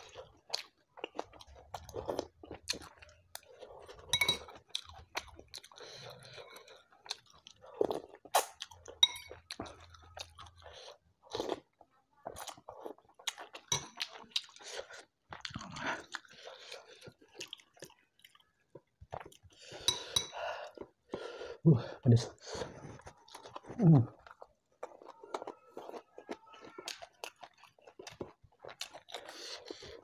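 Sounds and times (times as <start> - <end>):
person chewing food: 0.0 - 21.6, 22.2 - 30.0.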